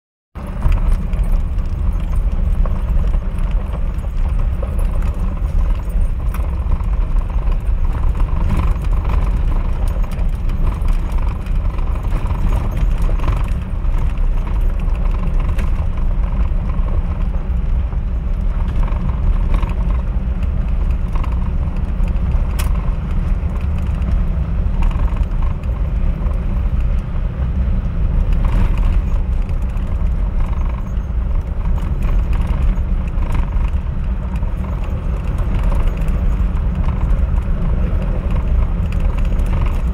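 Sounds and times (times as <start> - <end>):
small clicks and rattles: 0.4 - 39.9
vehicle driving on gravel: 0.4 - 39.9.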